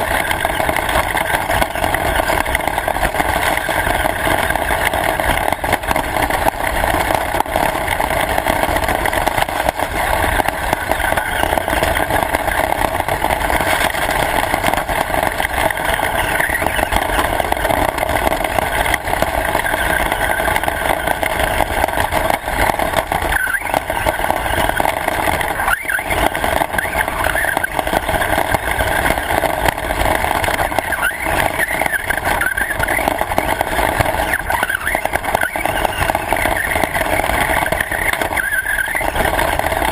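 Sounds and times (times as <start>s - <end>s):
radio-controlled car motor whirring: 0.0s - 39.9s.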